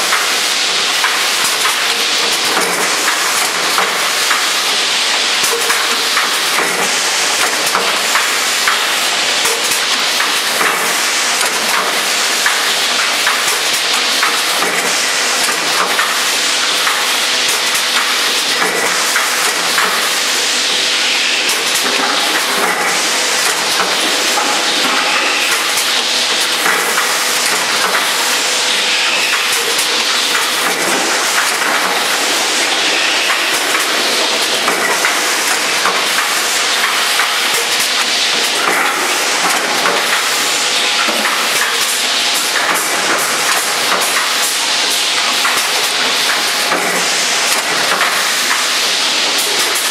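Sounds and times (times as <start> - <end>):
filling machine running: 0.0 - 49.9.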